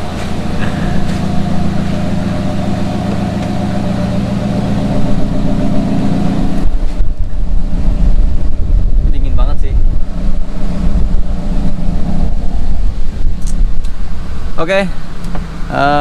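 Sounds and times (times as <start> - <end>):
loud low rumble: 0.0 - 15.0
car engine and air conditioning hum: 0.0 - 16.0.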